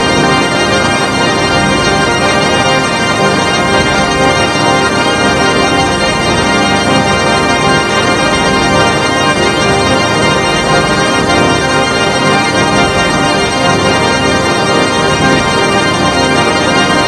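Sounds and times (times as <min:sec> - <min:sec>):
layered electronic drone: 0:00.0 - 0:17.0.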